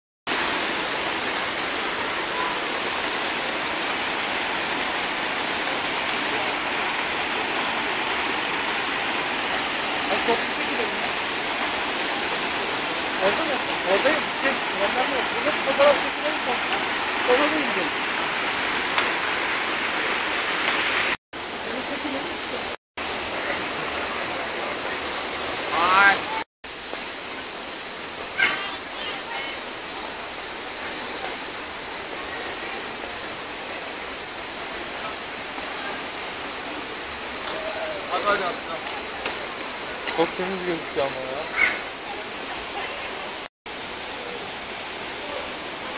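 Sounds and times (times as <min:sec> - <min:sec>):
waterfall roar: 0:00.3 - 0:45.9.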